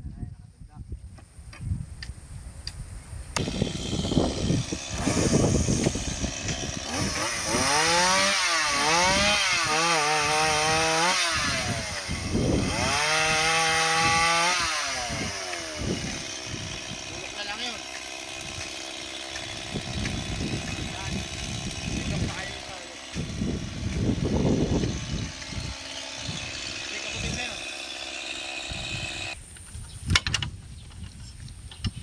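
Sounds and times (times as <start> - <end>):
chainsaw cutting branches: 3.4 - 29.4.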